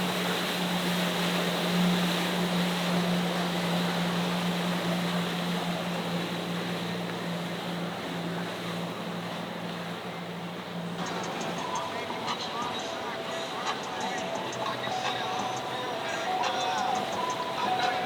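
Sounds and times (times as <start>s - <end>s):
motorboat engine hum: 0.0s - 18.0s
water wash: 0.0s - 18.0s.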